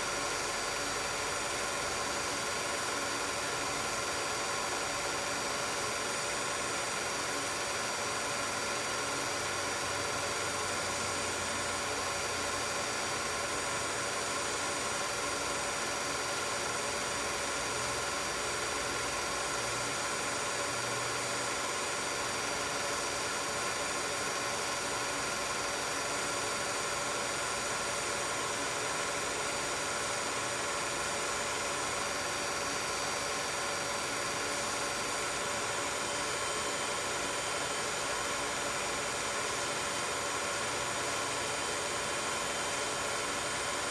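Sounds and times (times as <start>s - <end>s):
film projector whirring: 0.0s - 43.9s.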